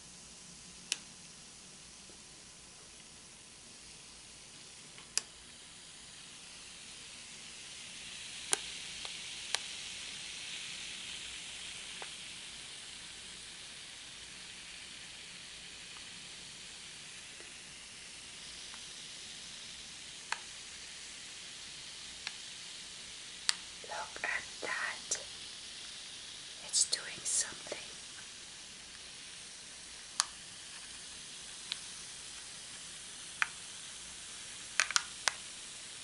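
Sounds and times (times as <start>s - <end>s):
foil pouch fizzing hiss: 0.0s - 36.0s.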